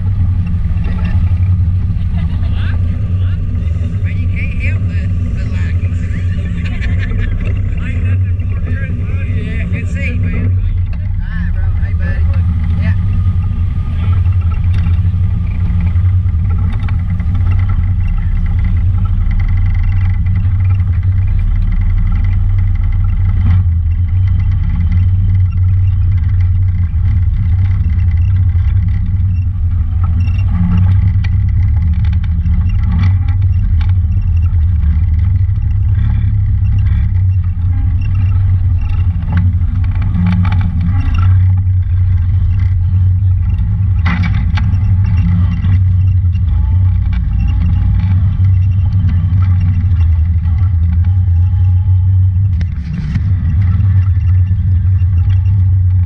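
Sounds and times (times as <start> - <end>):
engine droning: 0.0 - 56.0
knocks and rattles over bumps: 0.0 - 56.0.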